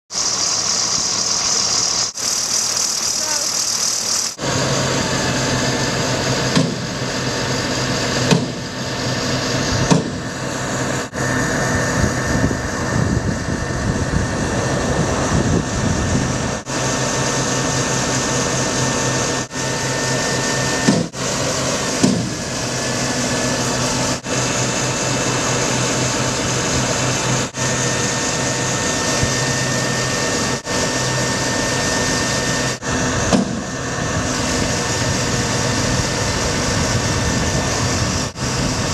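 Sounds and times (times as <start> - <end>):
truck engine running: 0.1 - 38.9.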